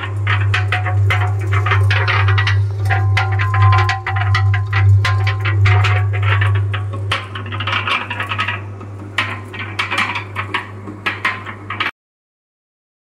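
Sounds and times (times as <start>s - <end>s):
cement mixer motor hum: 0.0s - 11.9s
rattling inside mixer drum: 0.0s - 11.9s.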